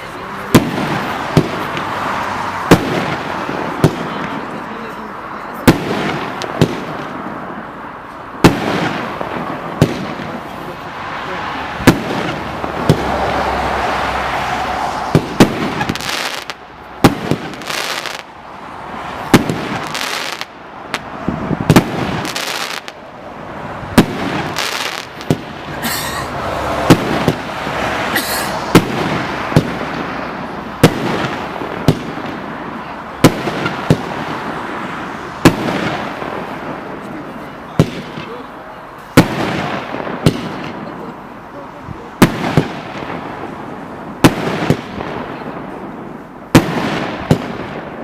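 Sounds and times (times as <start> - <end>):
firework bangs: 0.0 - 48.0.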